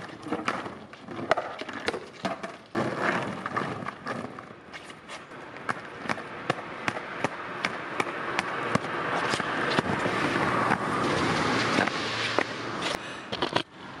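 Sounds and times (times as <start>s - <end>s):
skateboard clacks: 0.0s - 4.6s, 5.4s - 13.7s
skateboard wheels rolling on asphalt: 0.0s - 14.0s.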